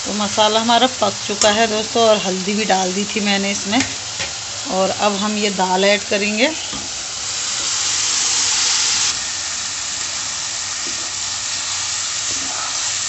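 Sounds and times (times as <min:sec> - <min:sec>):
paste sizzling in a pan: 0:00.0 - 0:13.0.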